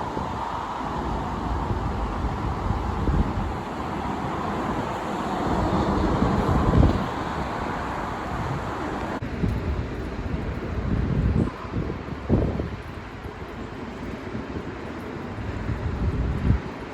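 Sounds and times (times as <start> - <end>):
bus engine and tyre noise: 0.0 - 16.9
wind buffeting microphone: 0.0 - 16.9.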